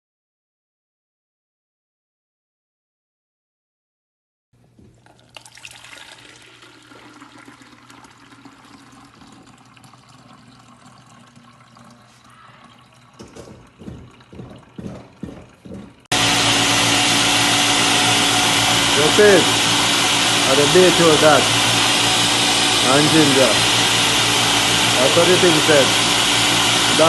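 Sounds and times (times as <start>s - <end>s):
water running: 4.6s - 27.0s.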